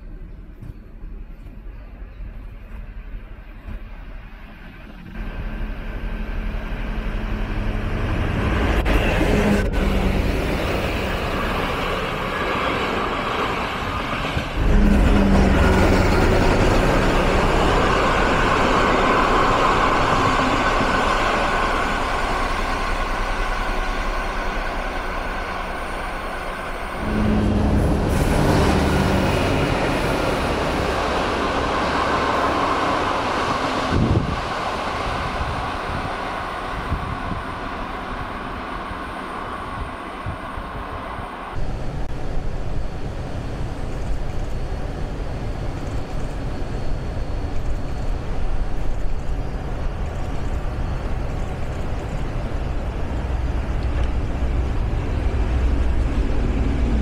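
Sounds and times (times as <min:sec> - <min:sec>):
coaches rumbling on rails: 0:00.0 - 0:57.0
diesel locomotive running under load: 0:00.0 - 0:57.0.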